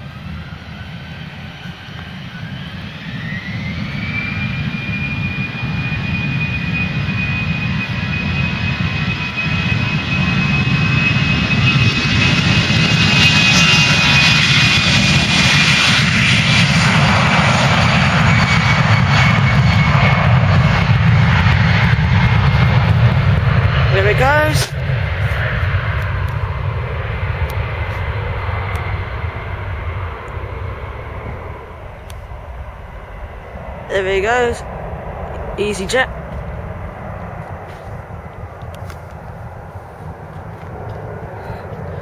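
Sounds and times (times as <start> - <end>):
jet engines spooling up: 0.0 - 42.0.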